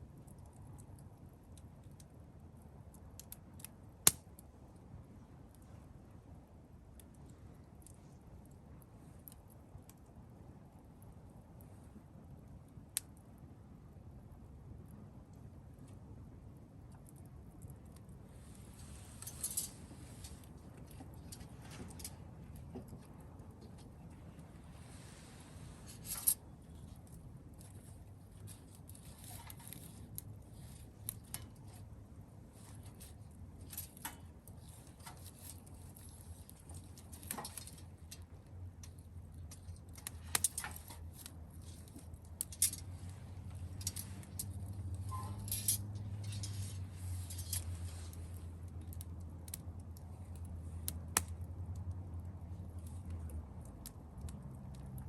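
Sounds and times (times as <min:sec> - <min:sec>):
campfire crackling and popping: 0:00.0 - 0:55.0
low steady hum: 0:00.0 - 0:55.0.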